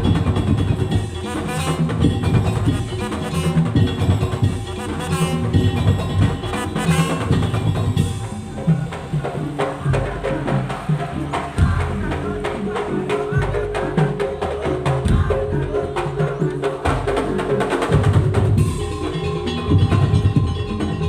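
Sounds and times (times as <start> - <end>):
loud bass line: 0.0 - 21.0
wooden slit drums and drums: 0.0 - 21.0.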